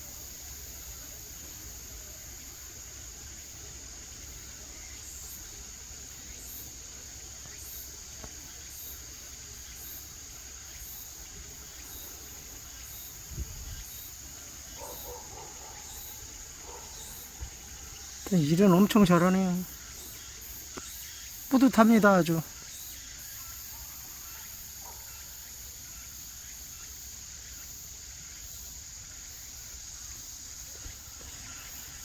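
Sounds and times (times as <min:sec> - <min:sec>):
insect high chirp: 0:00.0 - 0:32.0
insect high-pitched trill: 0:00.0 - 0:32.0.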